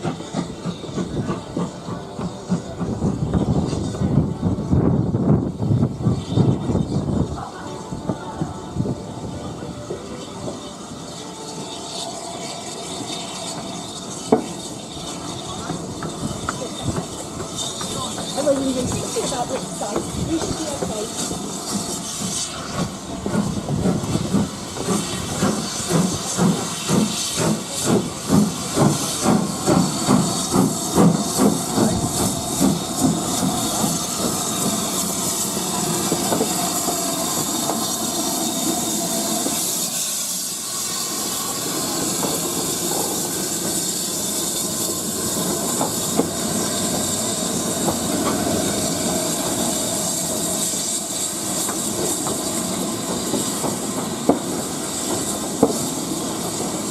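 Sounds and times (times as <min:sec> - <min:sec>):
steam hissing: 0:00.0 - 0:56.9
steam locomotive exhaust beats: 0:00.0 - 0:56.9
train rolling: 0:00.0 - 0:56.9.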